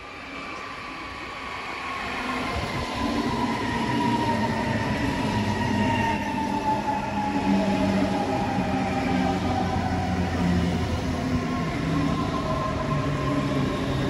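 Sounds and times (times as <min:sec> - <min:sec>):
electric train whine: 0:00.0 - 0:14.0.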